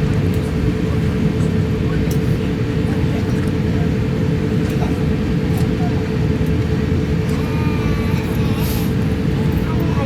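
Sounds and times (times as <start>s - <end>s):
aircraft cabin rumble: 0.0s - 10.0s
constant hum: 0.0s - 10.0s.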